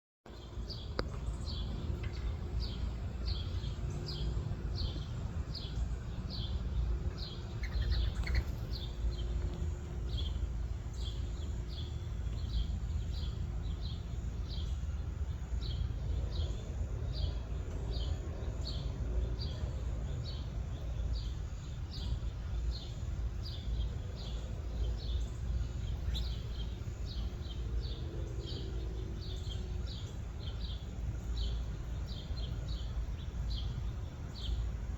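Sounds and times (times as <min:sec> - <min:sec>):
low background rumble: 0:00.3 - 0:34.9
small bird chirping: 0:00.4 - 0:34.7.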